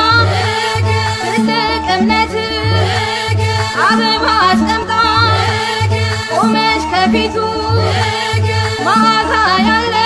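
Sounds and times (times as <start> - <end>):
bending melodic voice: 0.0 - 10.0
folk music with bass line: 0.0 - 10.0.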